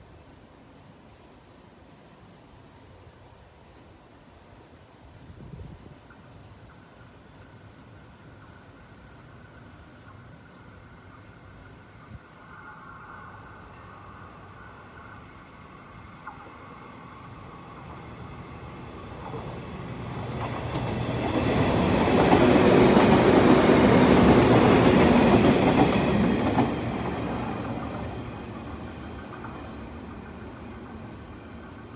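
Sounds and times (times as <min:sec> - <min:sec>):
electric train running past: 0:06.1 - 0:31.9.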